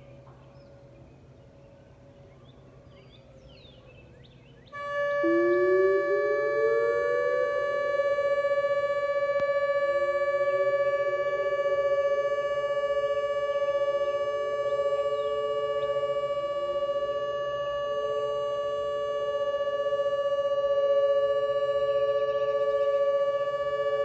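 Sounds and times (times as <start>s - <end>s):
lower siren tone: 4.7s - 24.0s
electronic siren alert tone: 4.8s - 24.0s.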